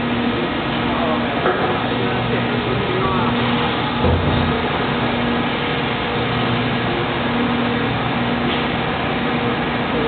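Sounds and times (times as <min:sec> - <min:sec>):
hydraulic machine running: 0:00.0 - 0:10.0
low machine hum: 0:00.0 - 0:10.0.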